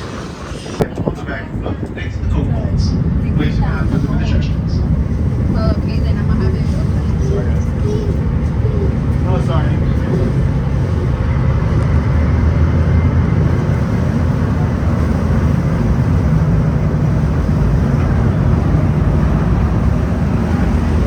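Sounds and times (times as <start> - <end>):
boat engines humming: 0.0 - 21.0
water rushing: 0.0 - 21.0
wind: 0.0 - 21.0.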